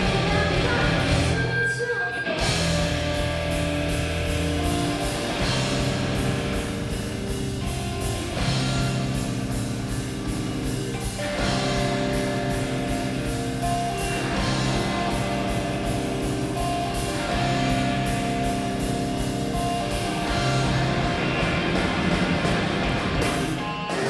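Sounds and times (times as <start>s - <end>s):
drum kit: 0.0s - 1.6s, 2.4s - 24.0s
electric guitar chords: 0.0s - 24.0s.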